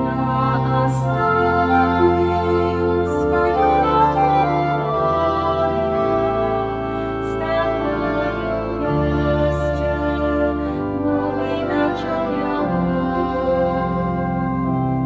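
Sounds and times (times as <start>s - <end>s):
flute: 0.0s - 15.0s
harp: 0.0s - 15.0s
organ: 0.0s - 15.0s
violin: 0.0s - 15.0s.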